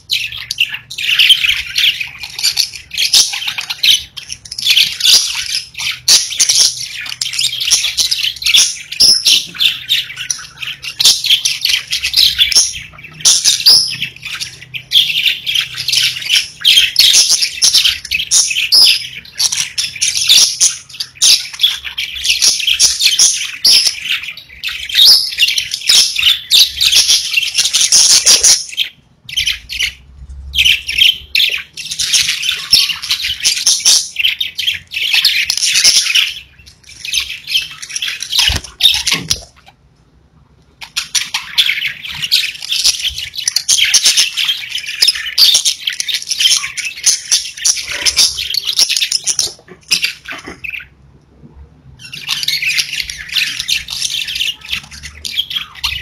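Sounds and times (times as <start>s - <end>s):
budgerigars chirping and warbling: 0.0s - 51.1s, 51.8s - 56.0s.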